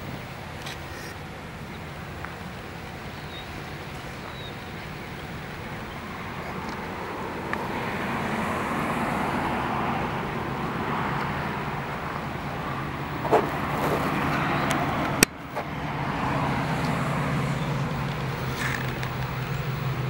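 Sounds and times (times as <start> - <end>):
diesel locomotive engine rumble: 0.0 - 20.0.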